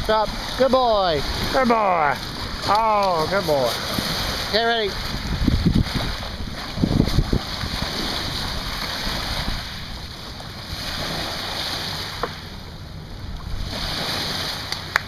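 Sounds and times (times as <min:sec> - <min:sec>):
sea waves breaking on shore: 0:00.0 - 0:15.0
wind rumbling on microphone: 0:00.0 - 0:15.0.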